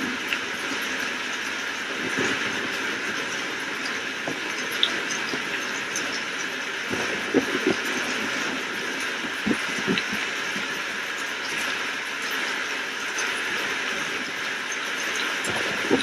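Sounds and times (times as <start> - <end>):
heavy rain hissing: 0.0 - 16.0
raindrops tapping nearby: 0.0 - 16.0.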